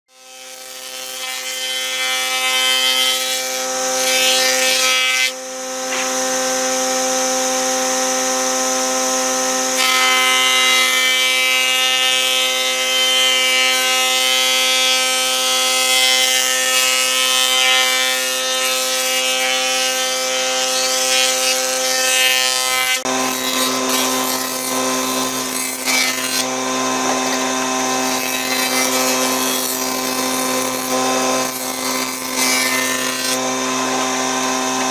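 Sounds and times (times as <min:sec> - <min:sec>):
rough wood cutting noise: 0:00.1 - 0:34.9
jointer machine whine: 0:00.6 - 0:34.9.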